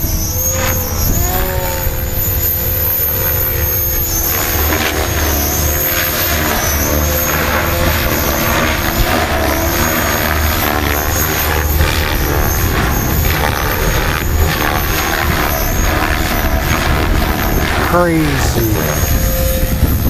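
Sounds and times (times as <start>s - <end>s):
electric motor whine: 0.0s - 18.0s, 18.7s - 20.0s
helicopter rotor blades whooshing: 0.0s - 20.0s.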